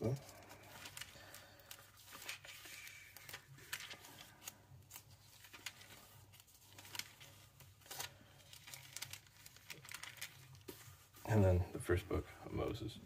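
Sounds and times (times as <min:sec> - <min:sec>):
pages being leafed through: 0:00.1 - 0:11.5.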